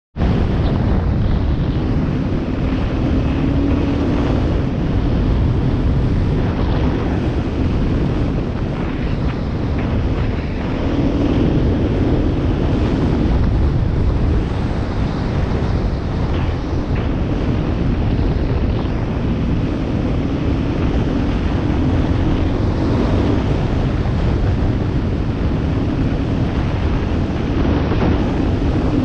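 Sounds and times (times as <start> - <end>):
wind buffeting microphone: 0.2 - 29.0
motorcycle engine running: 0.4 - 29.0.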